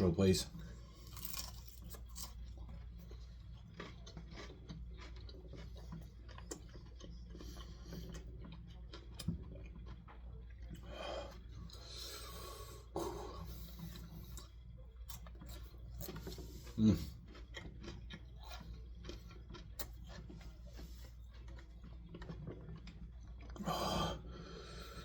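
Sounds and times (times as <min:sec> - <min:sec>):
chewing crunchy food: 0:00.2 - 0:25.0.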